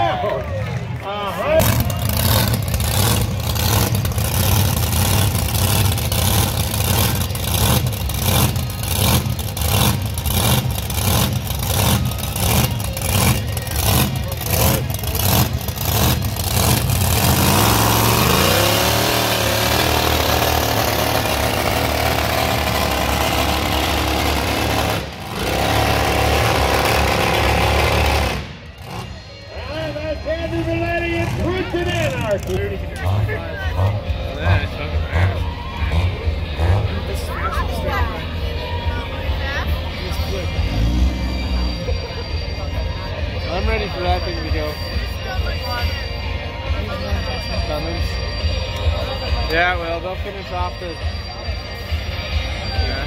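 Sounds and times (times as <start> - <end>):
truck engine running with lumpy beat: 0.0 - 53.0.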